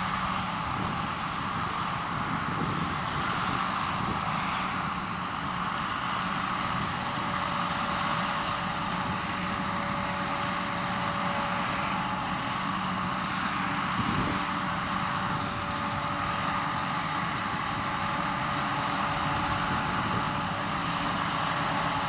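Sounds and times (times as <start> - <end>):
faint steady whine: 0.0 - 22.0
heavy machinery engine drone: 0.0 - 22.0.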